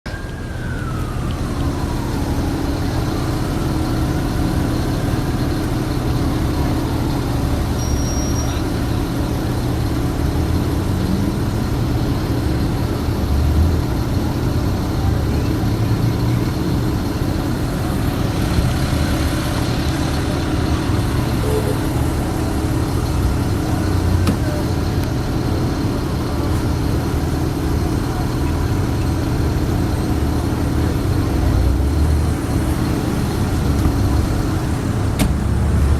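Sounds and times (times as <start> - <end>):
faint siren wail: 0.0 - 35.2
road traffic rumble: 0.1 - 35.9.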